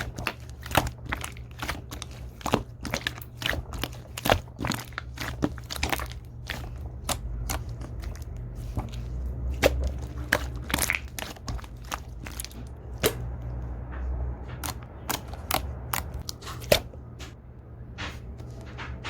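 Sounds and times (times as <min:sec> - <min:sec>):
slime clicking and popping: 0:00.0 - 0:13.3, 0:14.6 - 0:16.8.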